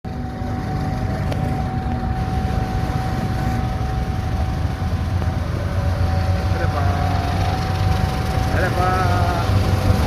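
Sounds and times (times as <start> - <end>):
diesel locomotive rumble: 0.0 - 10.0
thin steady whine: 0.1 - 10.0.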